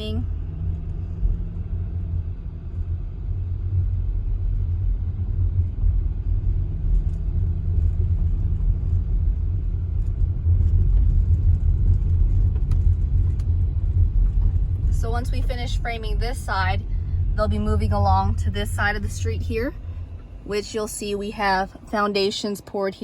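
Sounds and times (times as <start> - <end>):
car engine and tyre noise: 0.0 - 22.9.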